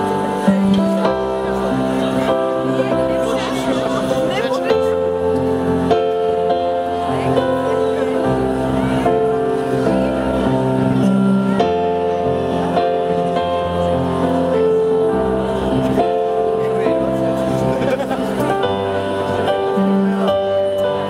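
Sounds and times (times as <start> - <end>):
sustained keyboard chords: 0.0 - 21.0.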